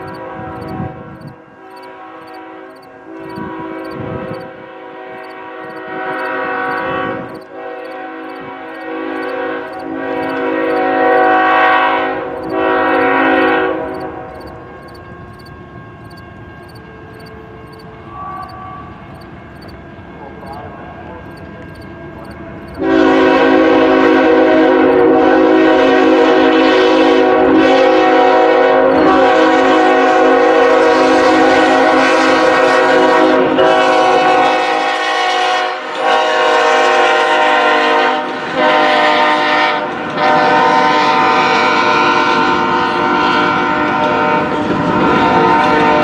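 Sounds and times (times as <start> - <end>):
locomotive air horn blasts: 0.0 - 19.5, 22.8 - 46.0.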